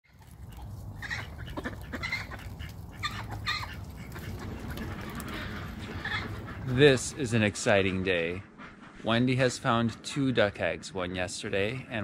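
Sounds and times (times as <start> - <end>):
ducks quacking: 0.1 - 12.0
steady low rumble: 0.2 - 11.9.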